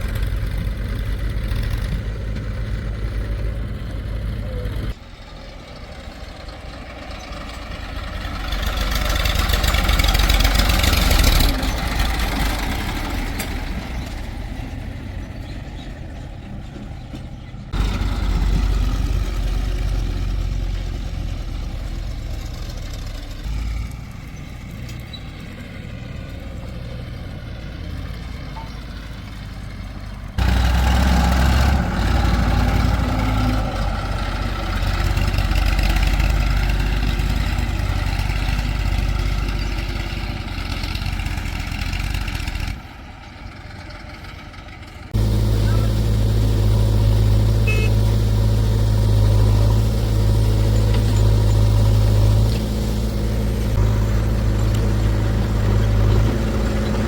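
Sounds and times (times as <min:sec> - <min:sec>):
diesel engines working under load: 0:00.0 - 0:57.0.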